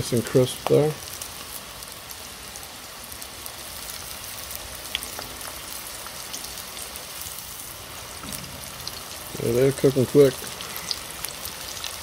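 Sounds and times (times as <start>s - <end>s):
oil bubbling and crackling: 0.0s - 12.0s.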